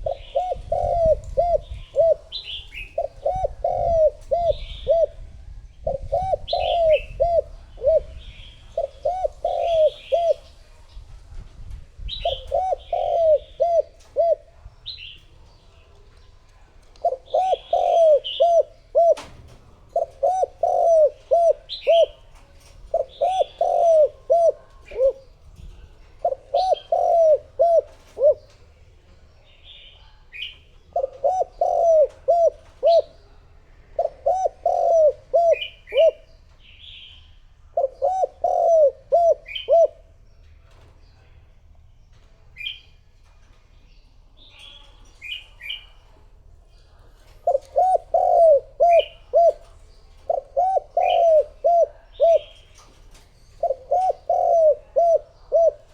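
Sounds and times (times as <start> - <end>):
dove cooing: 0.0 - 10.8, 12.1 - 15.2, 16.6 - 28.7, 30.4 - 37.1, 37.7 - 40.8, 47.0 - 55.9.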